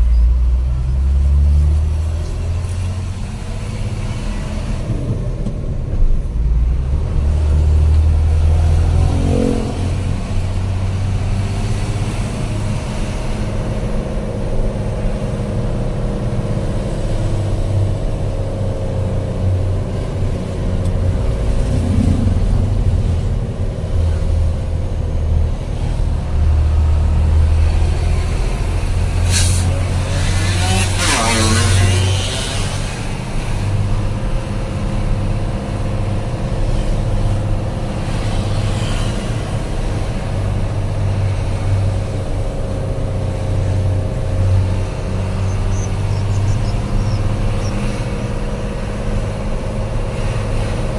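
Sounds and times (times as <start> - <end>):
truck engine drone: 0.0 - 50.9.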